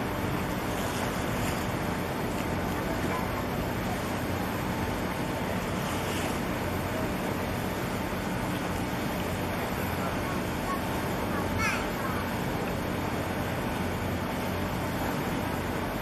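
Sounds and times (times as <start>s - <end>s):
low engine drone: 0.0s - 16.0s
water noise: 0.0s - 16.0s.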